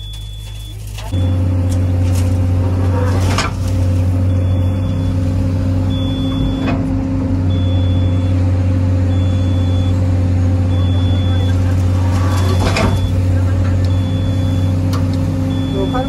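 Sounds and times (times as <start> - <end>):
excavator diesel engine: 0.0 - 16.0.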